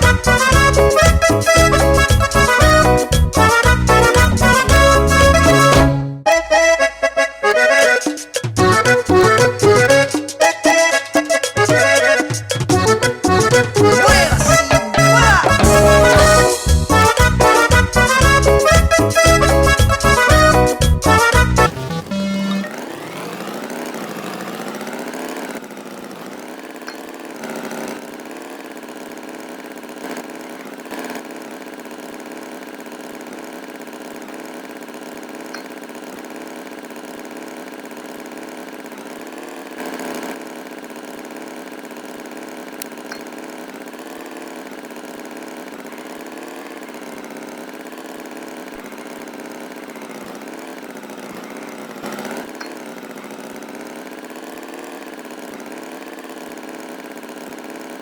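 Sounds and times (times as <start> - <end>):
engine idling: 0.0 - 5.9, 6.5 - 58.0.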